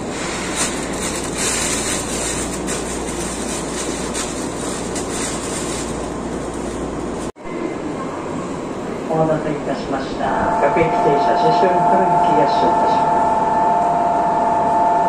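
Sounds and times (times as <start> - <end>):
electric trains rumbling: 0.0 - 15.0.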